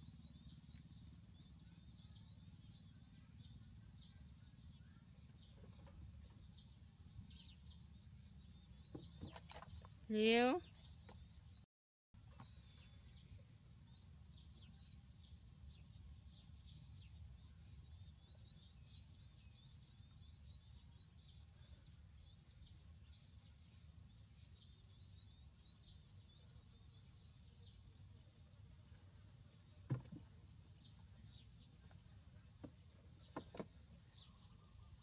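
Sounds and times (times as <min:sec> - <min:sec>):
small birds chirping: 0:00.0 - 0:11.6, 0:12.2 - 0:35.0.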